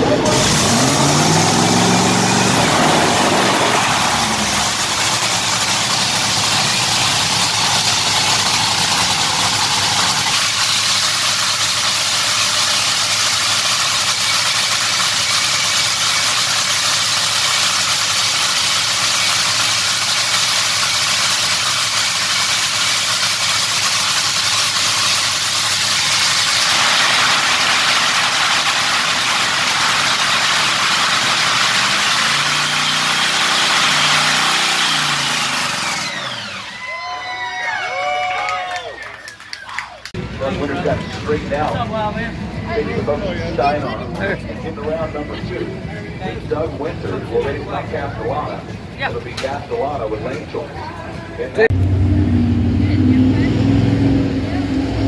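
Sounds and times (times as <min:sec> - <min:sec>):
dragster engine idling: 0:00.0 - 0:36.8, 0:40.1 - 0:53.5.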